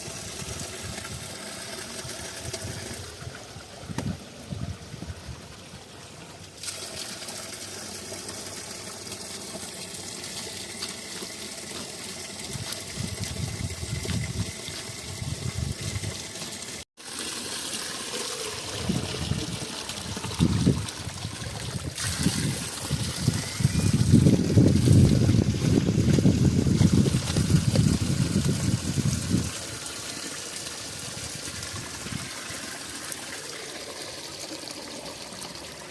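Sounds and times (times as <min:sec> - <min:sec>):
water running and splashing: 0:00.0 - 0:04.8, 0:05.6 - 0:35.9.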